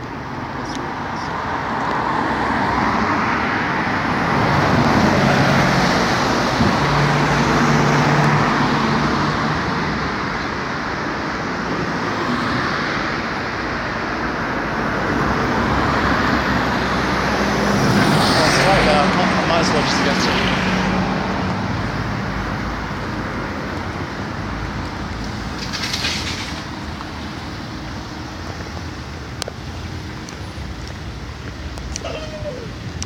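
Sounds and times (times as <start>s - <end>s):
cars driving past: 0.0s - 33.0s.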